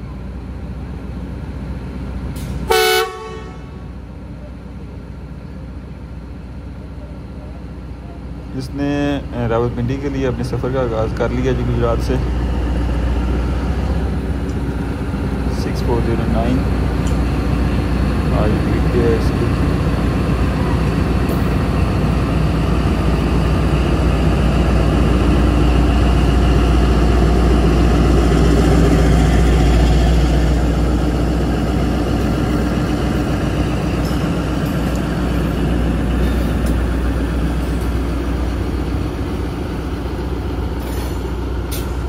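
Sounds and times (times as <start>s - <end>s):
diesel locomotive engine running: 0.0s - 42.0s.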